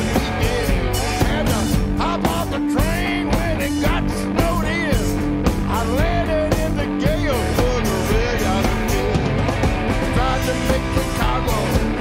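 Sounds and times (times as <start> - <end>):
bass guitar: 0.0 - 12.0
drum kit: 0.0 - 12.0
electric guitar lead bending: 0.0 - 12.0.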